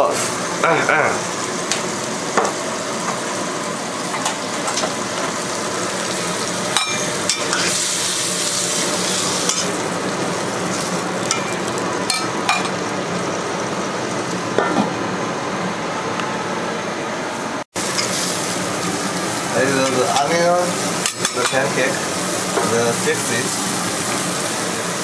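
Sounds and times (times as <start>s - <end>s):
food sizzling in a frying pan: 0.0s - 14.6s, 17.8s - 25.0s.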